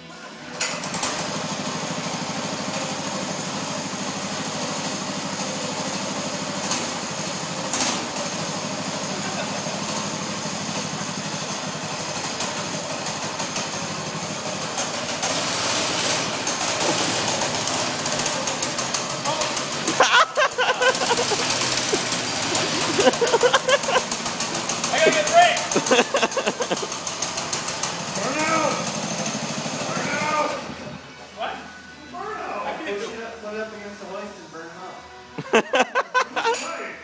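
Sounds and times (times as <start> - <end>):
small kart engine running: 0.0 - 31.4.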